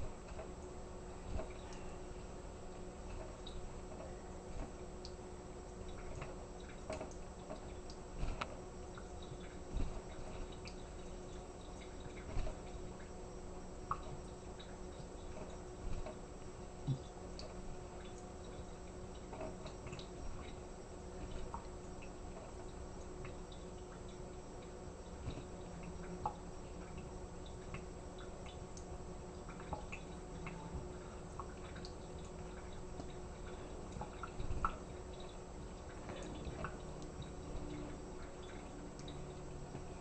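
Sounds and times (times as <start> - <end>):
small drips and clicks: 0.0 - 40.0
tap water trickling into sink: 3.0 - 40.0.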